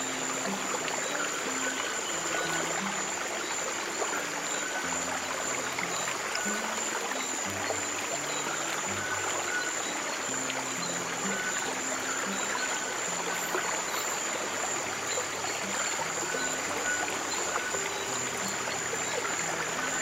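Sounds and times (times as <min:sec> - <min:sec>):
trickling stream water: 0:00.0 - 0:20.0.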